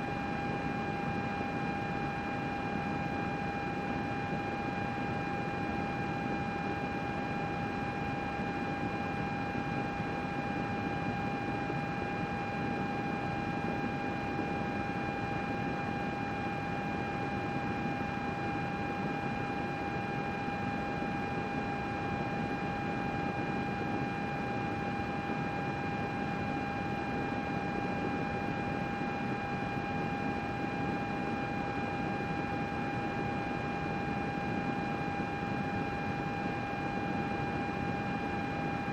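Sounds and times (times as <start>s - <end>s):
computer cooling fan whirring: 0.0s - 38.9s.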